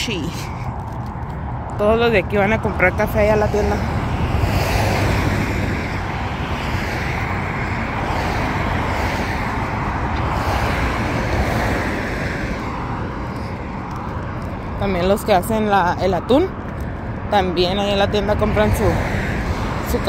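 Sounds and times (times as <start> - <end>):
passing cars tyre and engine noise: 0.0 - 20.0.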